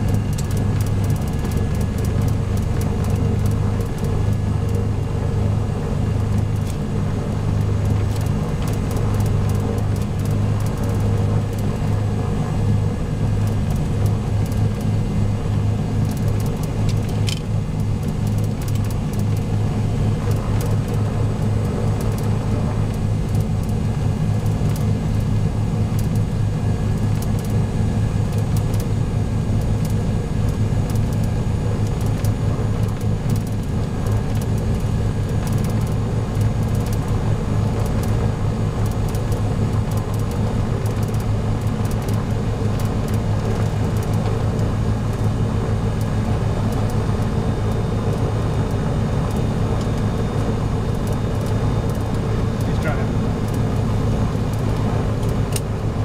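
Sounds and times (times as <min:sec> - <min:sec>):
piston engines droning: 0:00.0 - 0:56.0.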